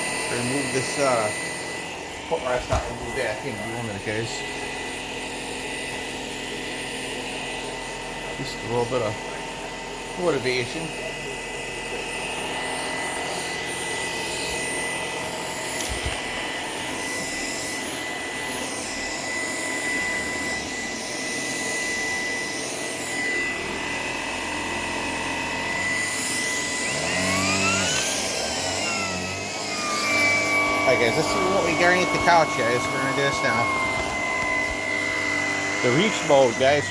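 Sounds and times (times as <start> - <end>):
cordless vacuum running: 0.0 - 36.9.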